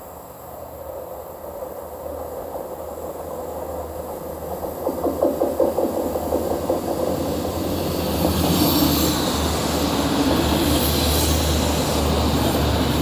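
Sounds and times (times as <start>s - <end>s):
train engine hum: 0.0s - 13.0s
train wheels on rail: 0.0s - 13.0s.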